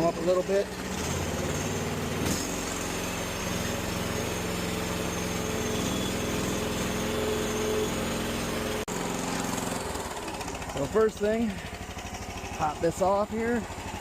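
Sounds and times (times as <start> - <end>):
small gasoline engine idling: 0.0 - 14.0.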